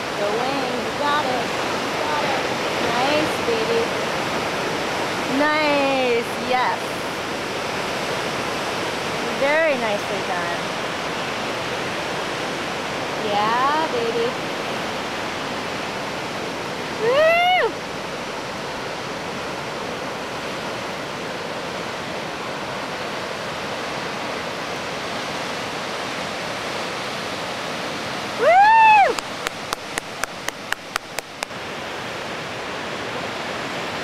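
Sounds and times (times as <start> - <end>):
ocean surf breaking: 0.0 - 34.0.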